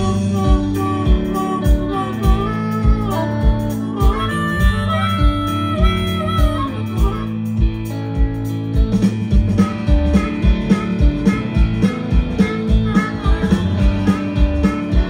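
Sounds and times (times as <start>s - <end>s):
harmonica solo: 0.0s - 8.6s, 9.3s - 15.0s
live rock band: 0.0s - 15.0s.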